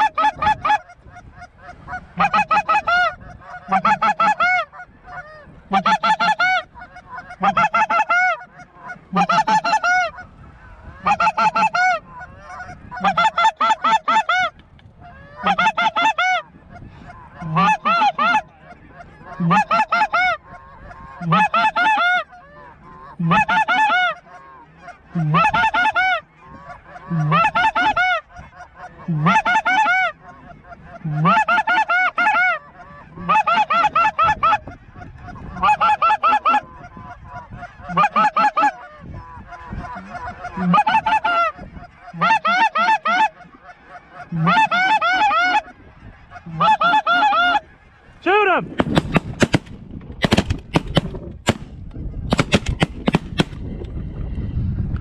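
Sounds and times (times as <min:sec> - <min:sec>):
snow goose honking: 0:00.0 - 0:49.6.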